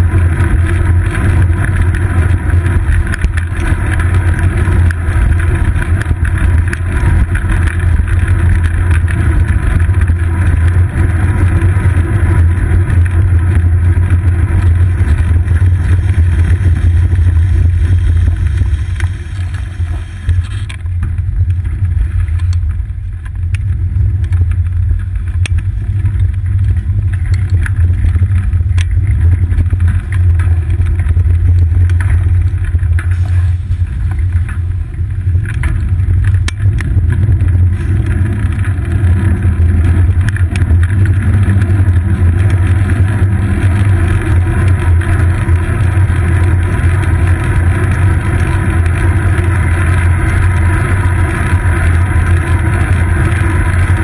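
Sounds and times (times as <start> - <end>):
wind buffeting and road rumble: 0.0 - 54.0.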